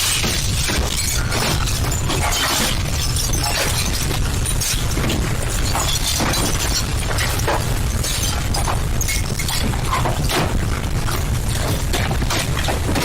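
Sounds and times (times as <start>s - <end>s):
crashes and glass shattering: 0.0s - 13.0s
deep earthquake rumble: 0.0s - 13.0s.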